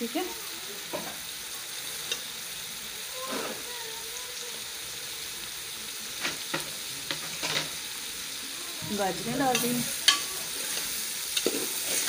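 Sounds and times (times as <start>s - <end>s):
carrots sizzling in a pot: 0.0s - 12.0s.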